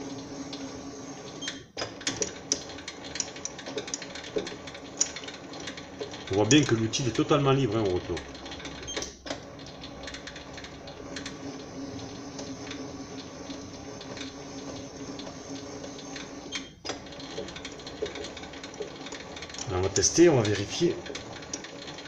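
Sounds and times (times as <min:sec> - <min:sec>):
lathe motor humming: 0:00.0 - 0:01.4, 0:02.3 - 0:22.0.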